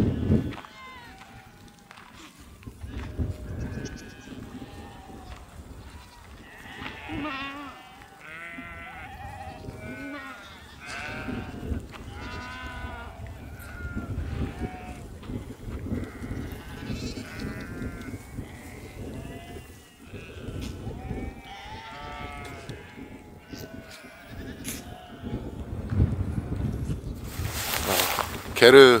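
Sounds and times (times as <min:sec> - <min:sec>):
goats and sheep bleating: 0:00.0 - 0:25.6
wind rumble on microphone: 0:00.0 - 0:29.0.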